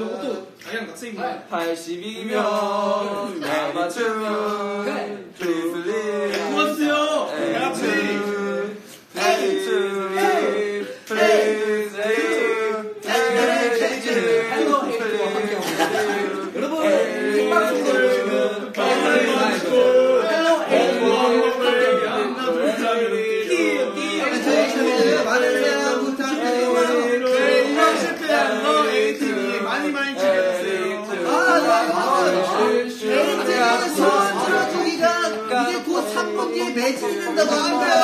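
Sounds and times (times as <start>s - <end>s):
young men singing together: 0.0s - 38.0s.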